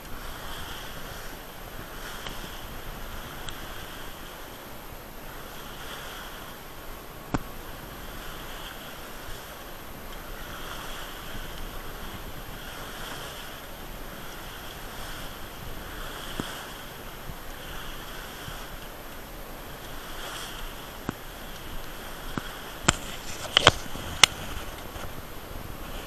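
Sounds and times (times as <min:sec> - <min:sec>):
water rushing along boat hull: 0:00.0 - 0:26.0
wind: 0:00.0 - 0:26.0.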